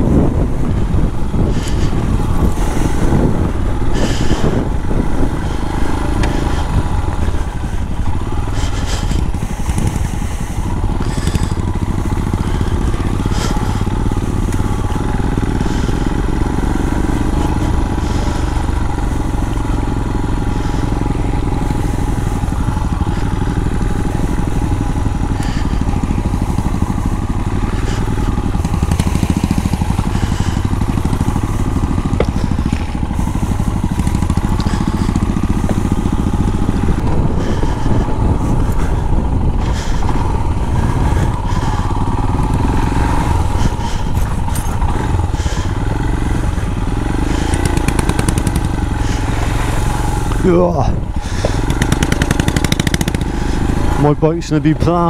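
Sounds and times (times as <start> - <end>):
motorcycle engine cruising: 0.0 - 55.0
tyres on wet gravel: 0.0 - 55.0.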